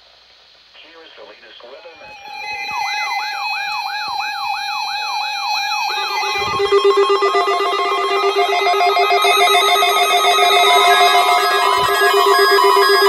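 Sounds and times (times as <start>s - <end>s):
rapidly pulsing alarm tone: 1.6s - 13.0s
steady electronic tone: 1.6s - 13.0s
rising and falling siren: 1.7s - 13.0s.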